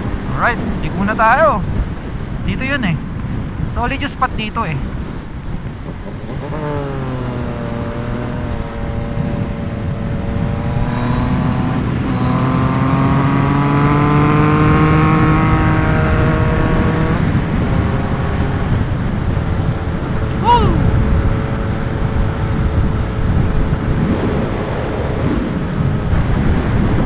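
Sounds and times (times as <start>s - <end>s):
motorcycle engine accelerating: 4.8s - 27.0s.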